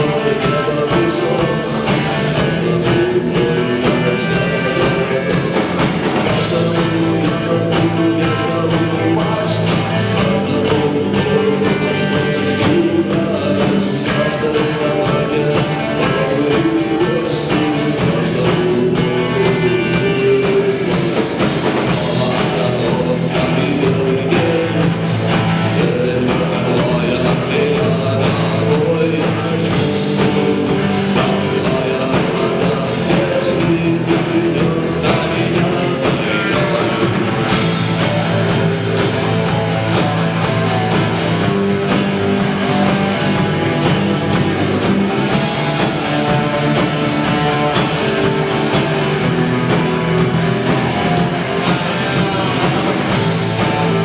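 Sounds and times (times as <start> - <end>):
bass guitar: 0.0 - 54.0
drum kit beat: 0.0 - 54.0
electric guitar melody: 0.0 - 54.0.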